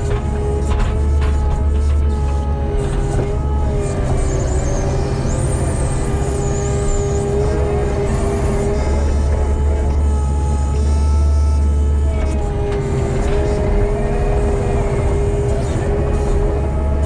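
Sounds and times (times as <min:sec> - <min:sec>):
diesel engine running: 0:00.0 - 0:17.0
wavering high-pitched whine: 0:03.1 - 0:17.0.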